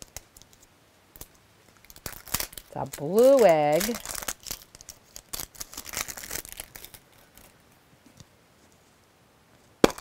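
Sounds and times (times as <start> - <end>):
plastic crinkling and clicking: 0.0 - 8.3.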